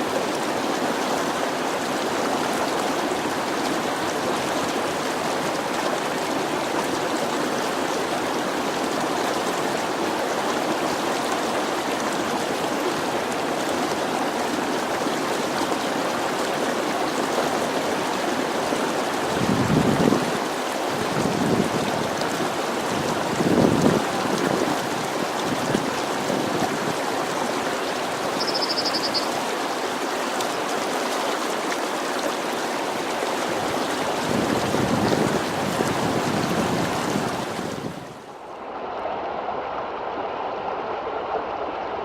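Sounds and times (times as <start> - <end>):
stream flowing water: 0.0 - 42.0.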